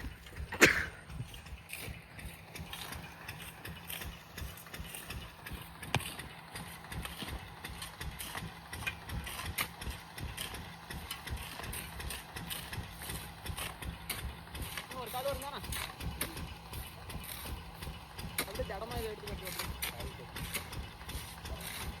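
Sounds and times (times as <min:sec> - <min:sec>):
diesel pump engine chugging: 0:00.0 - 0:22.0.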